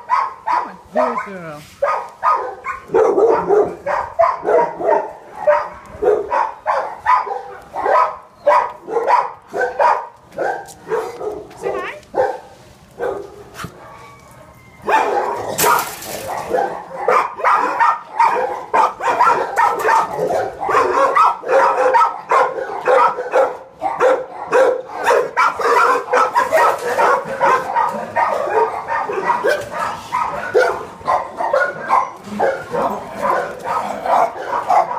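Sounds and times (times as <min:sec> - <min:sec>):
dogs barking: 0:00.0 - 0:34.9.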